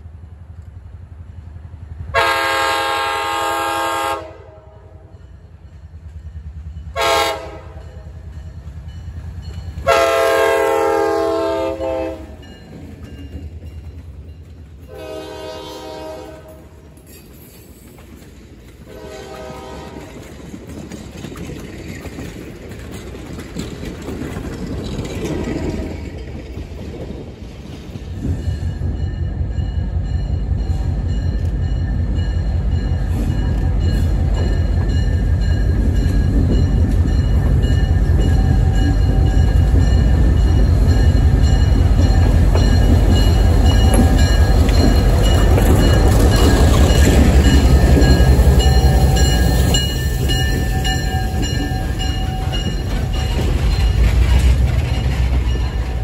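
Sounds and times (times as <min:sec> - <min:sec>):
diesel locomotive engine rumble: 0:00.0 - 0:56.0
train cars rolling on rails: 0:00.0 - 0:56.0.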